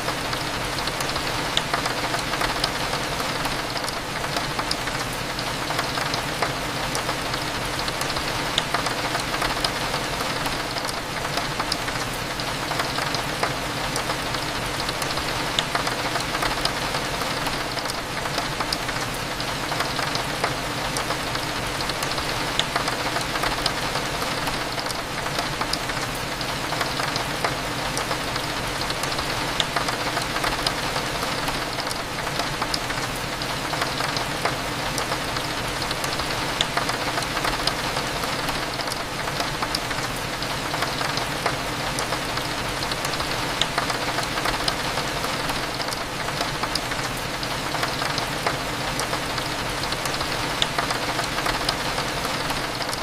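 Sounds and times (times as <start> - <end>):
rain against a window: 0.0 - 53.0.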